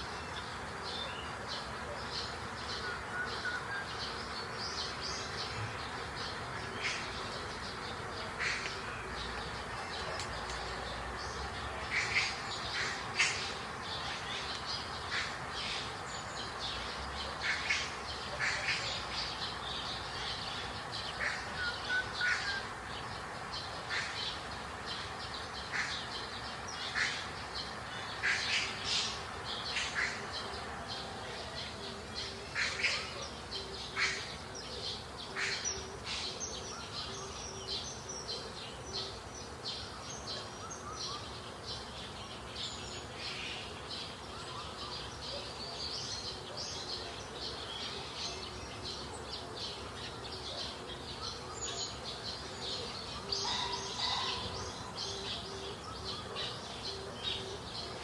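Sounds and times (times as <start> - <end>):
steady background hiss: 0.0 - 58.0
wild birds chirping: 0.0 - 58.0.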